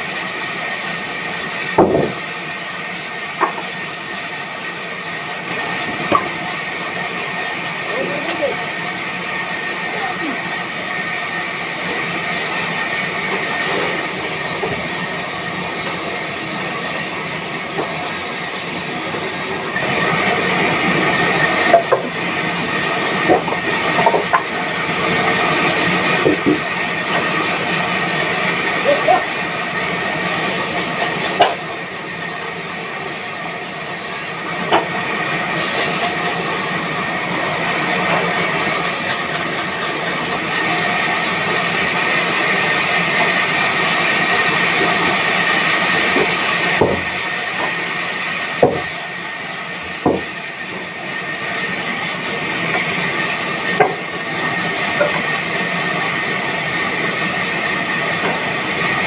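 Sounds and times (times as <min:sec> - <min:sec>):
woodworking machinery hiss: 0:00.0 - 0:59.0.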